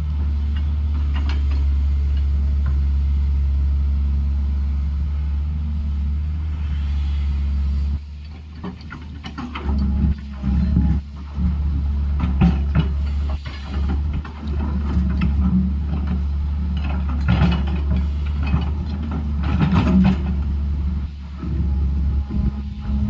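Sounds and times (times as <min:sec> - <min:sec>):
diesel engine under load: 0:00.0 - 0:23.0.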